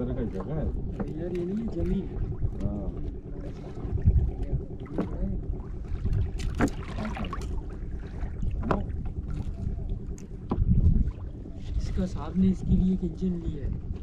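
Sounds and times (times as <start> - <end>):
boat engine running: 0.0 - 14.0
wind on microphone: 0.0 - 14.0.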